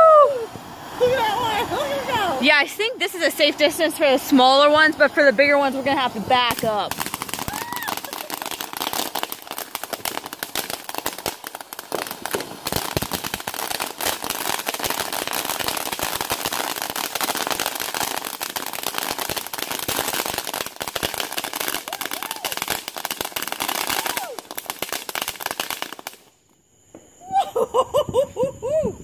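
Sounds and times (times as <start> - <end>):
fireworks crackling pops: 0.1 - 27.2.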